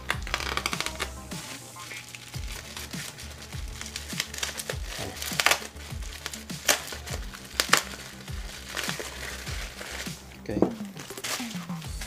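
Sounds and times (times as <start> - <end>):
background music with a beat: 0.0 - 12.0
bubble wrap crinkling: 0.0 - 12.0.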